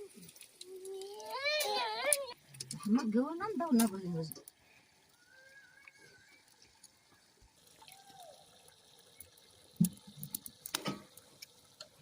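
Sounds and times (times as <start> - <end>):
water splashing and dribbling: 0.0 - 12.0.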